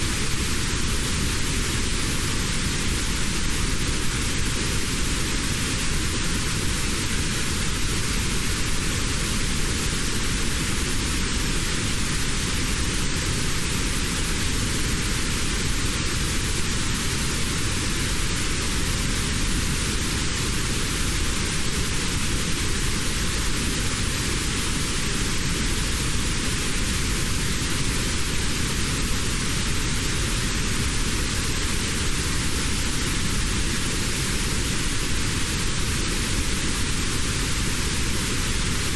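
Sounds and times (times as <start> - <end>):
notched white noise: 0.0 - 38.9.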